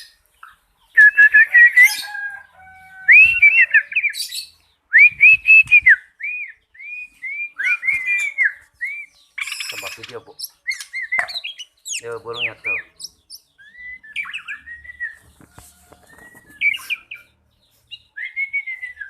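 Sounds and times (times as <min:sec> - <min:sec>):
bird singing whistled notes: 0:00.9 - 0:02.3, 0:02.9 - 0:19.0.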